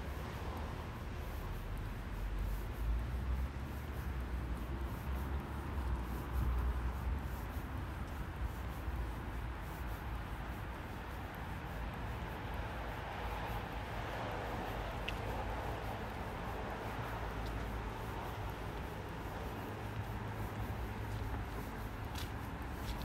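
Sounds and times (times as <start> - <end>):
distant traffic noise: 0.0 - 23.0.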